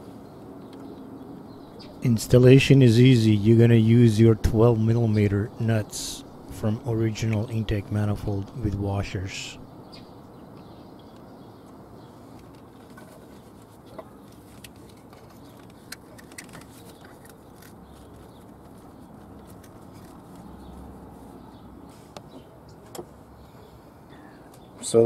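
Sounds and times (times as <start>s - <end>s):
faint steady background noise: 0.0s - 25.0s.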